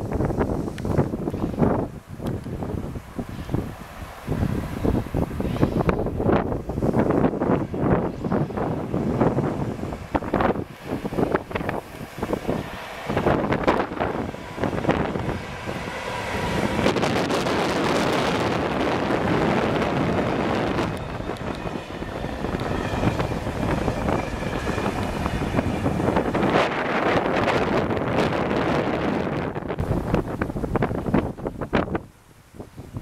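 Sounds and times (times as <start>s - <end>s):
train wheels rolling on rails: 0.0s - 31.3s
diesel locomotive engine running: 0.0s - 31.7s
wind buffeting microphone: 0.0s - 33.0s.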